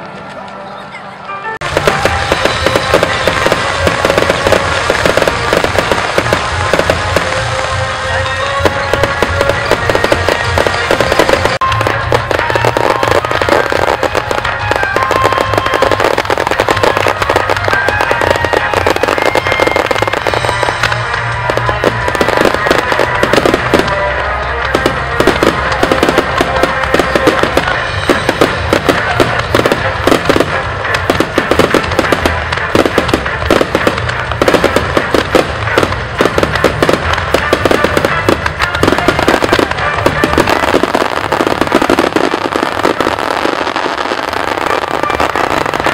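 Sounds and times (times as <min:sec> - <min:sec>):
fireworks bangs and crackles: 0:01.6 - 0:45.9.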